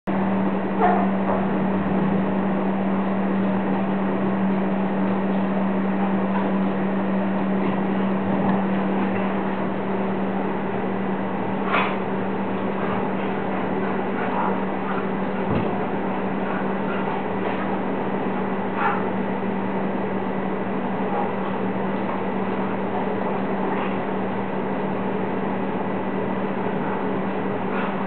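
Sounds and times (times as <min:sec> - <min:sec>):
steady low hum: 0:00.1 - 0:28.0.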